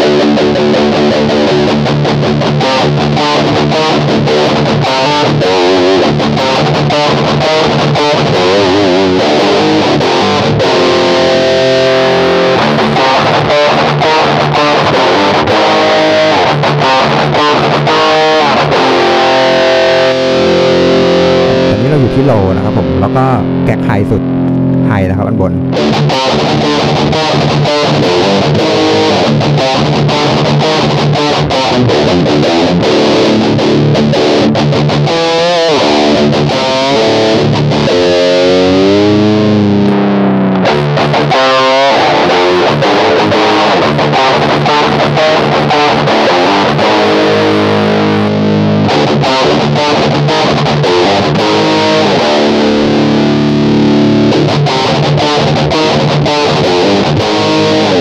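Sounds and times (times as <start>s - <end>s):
distorted electric guitar riffing: 0.0s - 58.0s.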